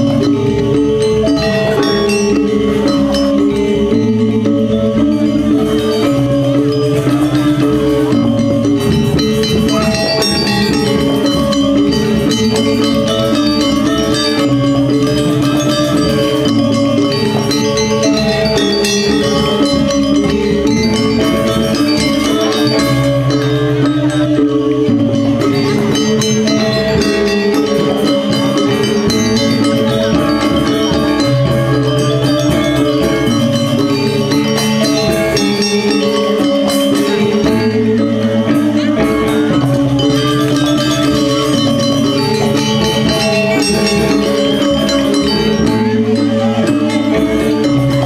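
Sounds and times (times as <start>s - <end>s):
metallophones ringing fast: 0.0s - 48.0s.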